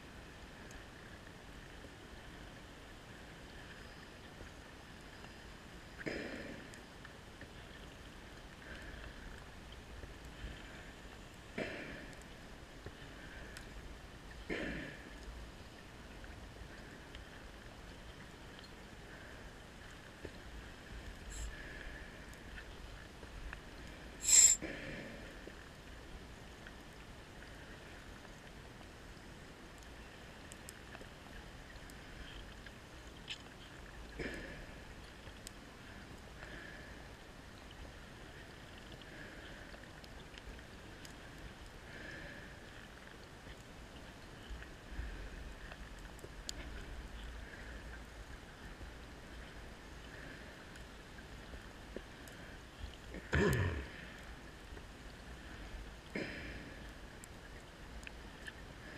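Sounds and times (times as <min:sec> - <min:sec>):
faint steady hiss: 0:00.0 - 0:58.9
faint clicks: 0:00.6 - 0:02.0, 0:05.2 - 0:26.0, 0:29.7 - 0:36.9, 0:37.6 - 0:54.9, 0:56.0 - 0:58.9.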